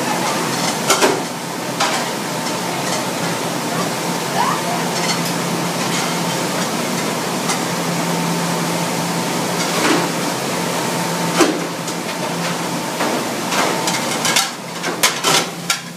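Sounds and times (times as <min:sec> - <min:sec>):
dishwasher rushing hum: 0:00.0 - 0:15.9.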